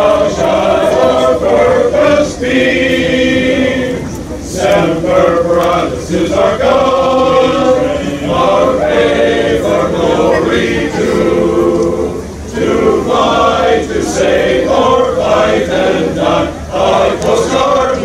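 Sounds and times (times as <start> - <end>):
men's choir singing: 0.0 - 18.0.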